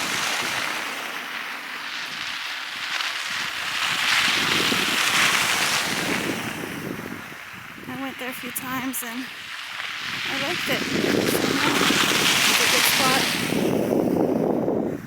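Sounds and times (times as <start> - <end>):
strong wind in snowstorm: 0.0 - 15.0.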